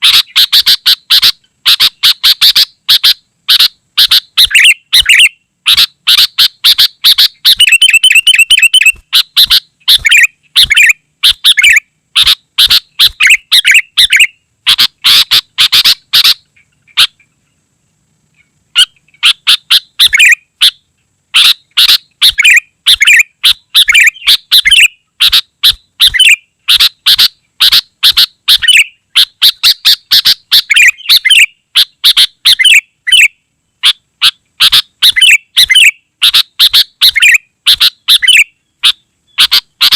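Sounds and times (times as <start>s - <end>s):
buzzy rapid bird trill: 0.0s - 17.7s, 18.3s - 39.9s
bird chirping: 0.0s - 39.9s.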